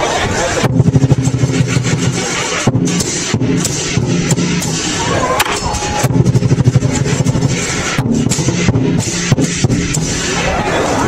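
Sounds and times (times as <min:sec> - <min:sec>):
big drum beaten rapidly: 0:00.0 - 0:11.0
crashing cymbals: 0:00.1 - 0:11.0.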